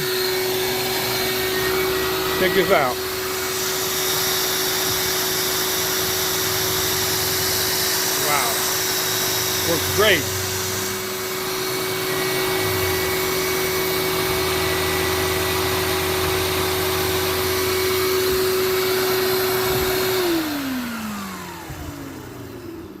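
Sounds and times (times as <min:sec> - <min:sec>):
shop vac motor whining: 0:00.0 - 0:23.0.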